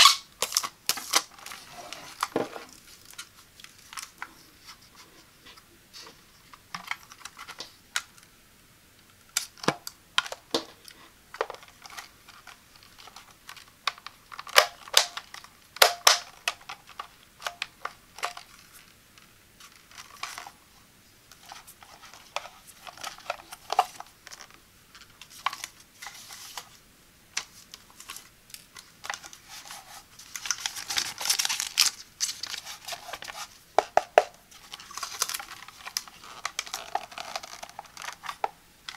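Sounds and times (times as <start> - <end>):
wrapping crinkling: 0.0 - 4.9, 9.3 - 20.6, 21.3 - 33.9, 34.5 - 38.9.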